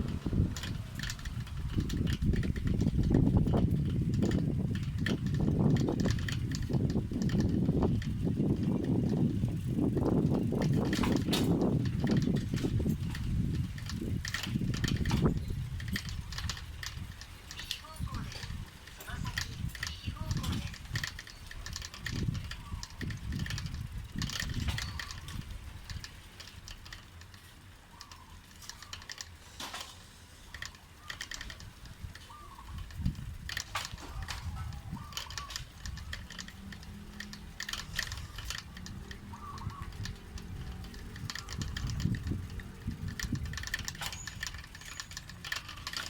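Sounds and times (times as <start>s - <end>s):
wind buffeting microphone: 0.0s - 27.2s, 30.5s - 46.0s
bicycle clicks and rattles: 0.0s - 46.0s.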